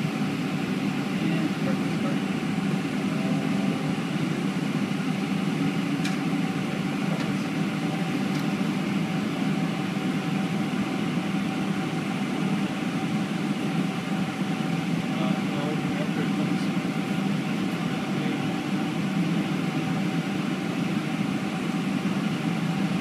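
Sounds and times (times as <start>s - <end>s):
air conditioning blowing: 0.0s - 23.0s
aircraft cabin hum: 0.0s - 23.0s.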